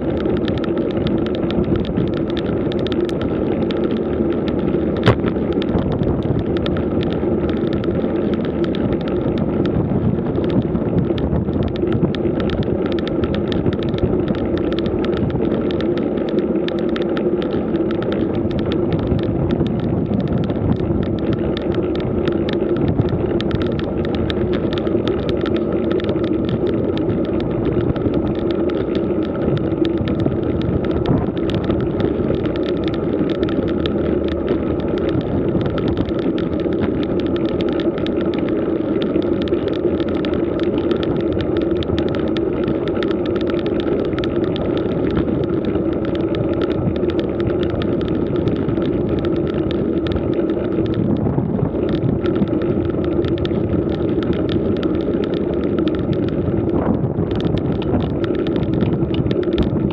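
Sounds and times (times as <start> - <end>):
bicycle road and wind noise: 0.0 - 59.9.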